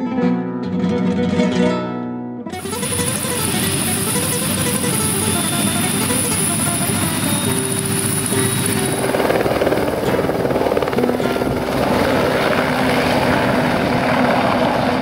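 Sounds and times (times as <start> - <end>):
music: 0.0 - 15.0
helicopter rotor beating: 2.6 - 15.0.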